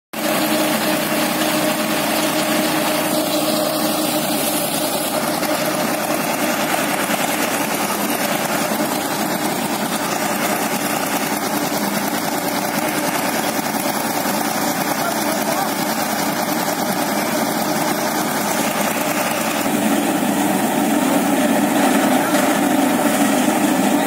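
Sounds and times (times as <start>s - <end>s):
thresher machine drone: 0.2s - 24.0s.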